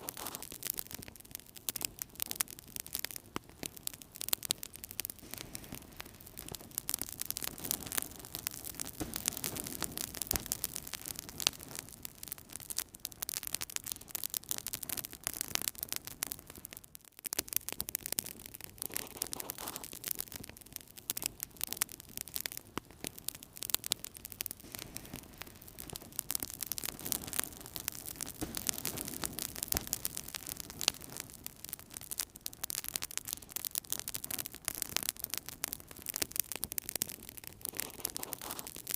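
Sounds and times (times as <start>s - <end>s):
rush of flames: 0.0s - 2.4s, 3.0s - 16.5s, 18.0s - 38.9s
wood fire crackling and popping: 0.0s - 38.9s.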